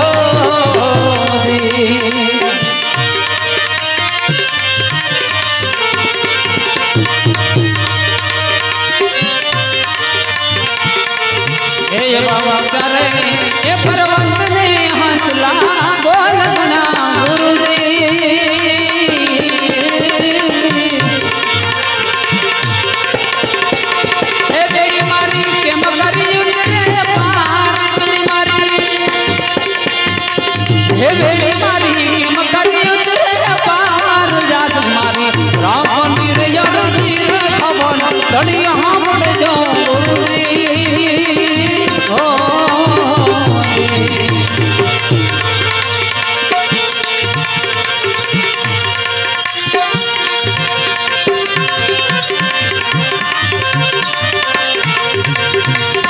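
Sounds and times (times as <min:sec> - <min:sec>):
tabla beat: 0:00.0 - 0:56.0.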